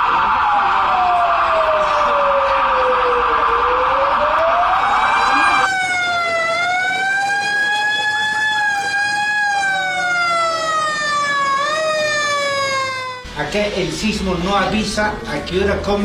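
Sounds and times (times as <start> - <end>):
siren wailing: 0.0 - 13.4.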